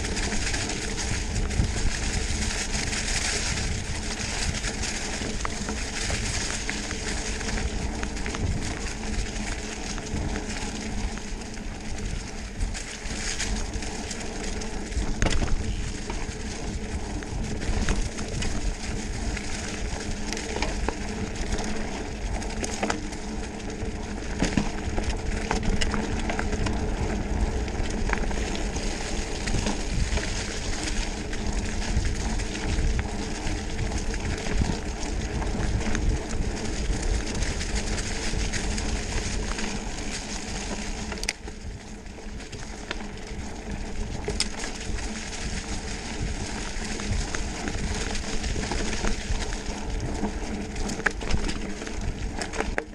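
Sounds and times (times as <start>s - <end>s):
bike clattering over bumps: 0.0s - 52.9s
bike rolling over dry leaves: 0.0s - 52.9s
wind on microphone: 0.0s - 52.9s.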